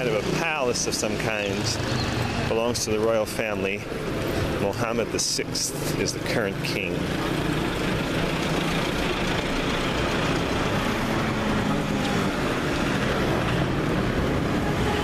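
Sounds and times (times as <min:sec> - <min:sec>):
scooters and cars passing: 0:00.0 - 0:15.0.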